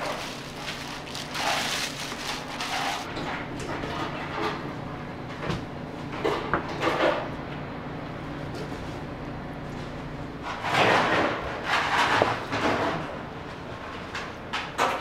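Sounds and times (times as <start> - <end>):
kitchen equipment hum: 0.0 - 14.6.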